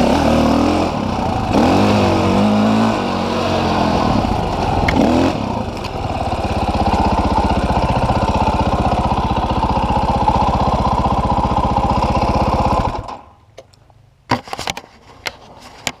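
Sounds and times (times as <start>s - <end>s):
dirt bike engine running: 0.0s - 13.2s.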